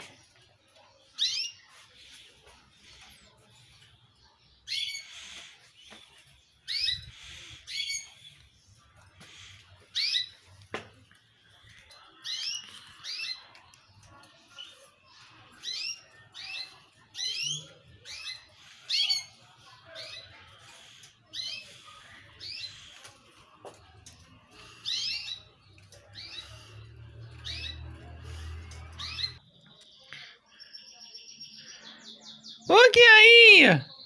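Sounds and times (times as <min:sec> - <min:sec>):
caged bird chirping: 0:00.0 - 0:32.9, 0:33.7 - 0:34.0.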